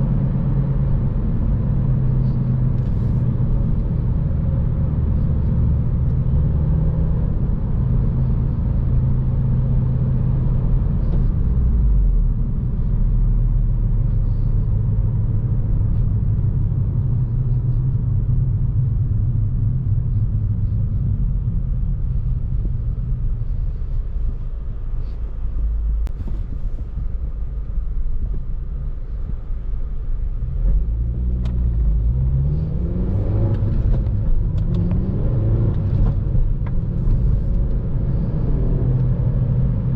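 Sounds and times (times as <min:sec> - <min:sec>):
car engine while driving: 0:00.0 - 0:39.9.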